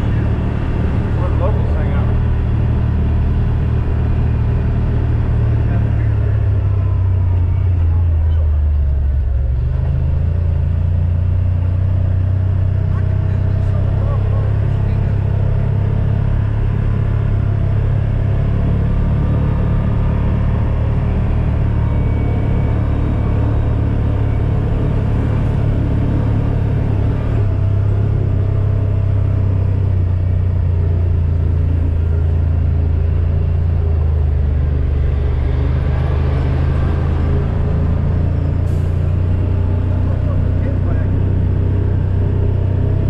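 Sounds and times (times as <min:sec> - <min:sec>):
road rumble: 0:00.0 - 0:43.0
vehicle engine droning: 0:00.0 - 0:43.0.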